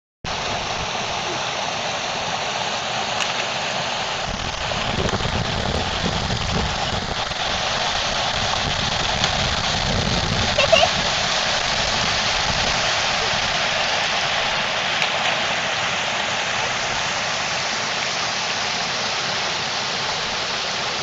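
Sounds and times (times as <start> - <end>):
water rushing: 0.3 - 21.0.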